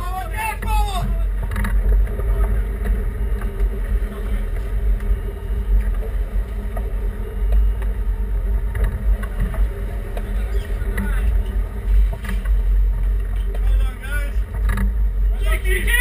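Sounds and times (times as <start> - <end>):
boat engine running: 0.0 - 16.0
wind buffeting microphone: 0.0 - 16.0.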